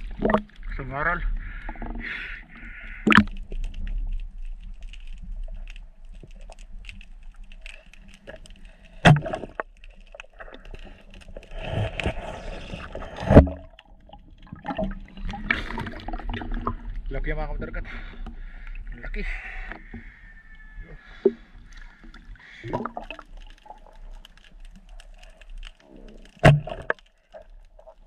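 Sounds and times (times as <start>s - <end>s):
underwater water gurgling: 0.0s - 28.0s.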